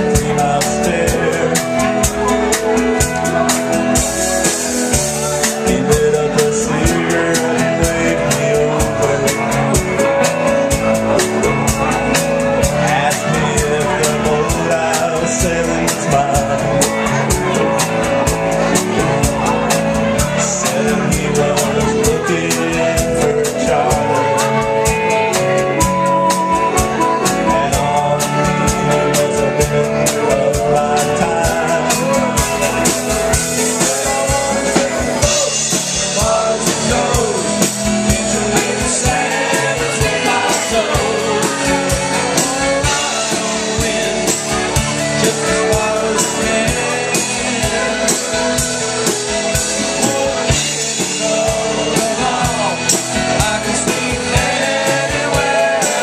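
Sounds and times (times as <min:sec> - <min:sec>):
drum kit: 0:00.0 - 0:56.0
guitar: 0:00.0 - 0:56.0
person singing: 0:00.0 - 0:56.0.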